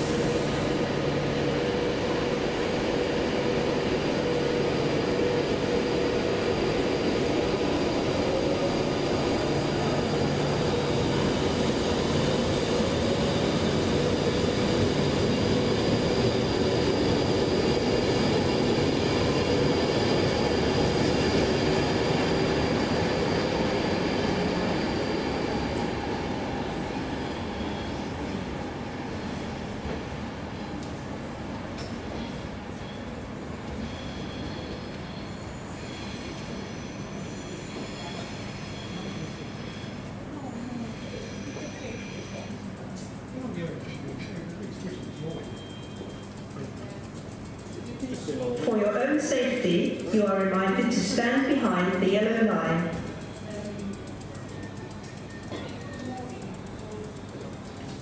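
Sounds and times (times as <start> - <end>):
train rolling rumble: 0.0 - 58.0.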